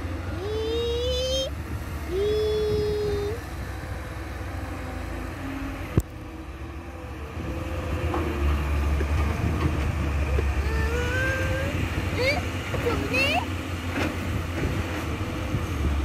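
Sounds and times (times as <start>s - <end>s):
truck and excavator engines rumbling: 0.0s - 16.0s.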